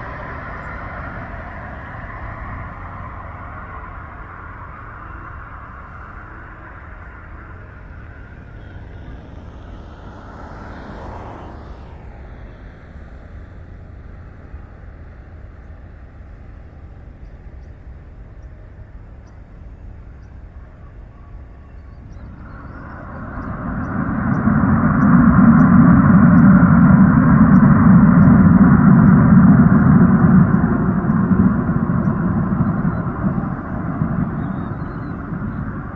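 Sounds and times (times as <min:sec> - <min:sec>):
jet engine and airflow hum: 0:00.0 - 0:35.9.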